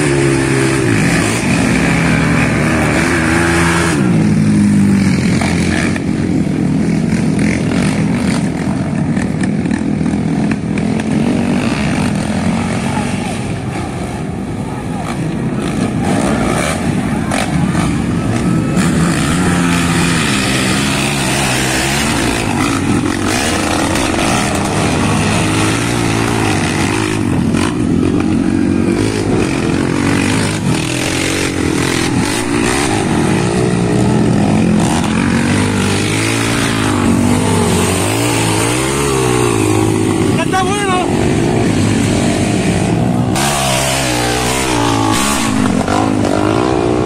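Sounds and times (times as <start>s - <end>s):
quad bike engines revving: 0.0s - 47.0s.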